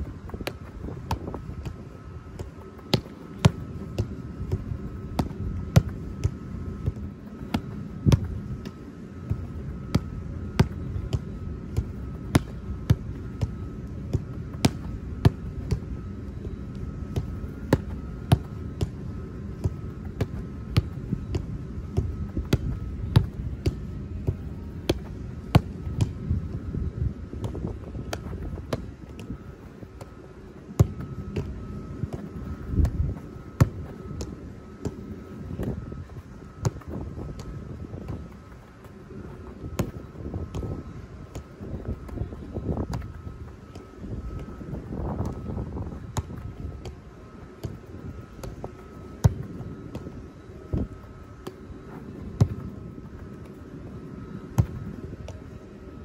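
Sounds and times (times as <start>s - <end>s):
football kicked thuds: 0.1s - 26.6s, 27.3s - 29.4s, 30.7s - 43.8s, 44.4s - 47.0s, 47.6s - 51.6s, 52.3s - 53.6s, 54.5s - 55.4s.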